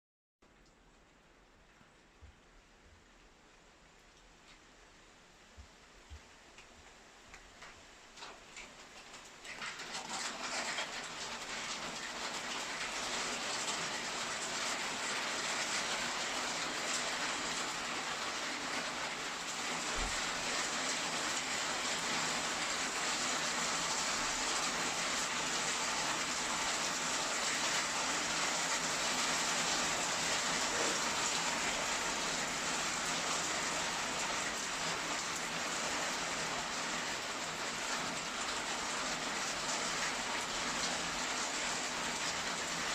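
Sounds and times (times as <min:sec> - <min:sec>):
heavy rain falling: 0:06.5 - 0:42.9.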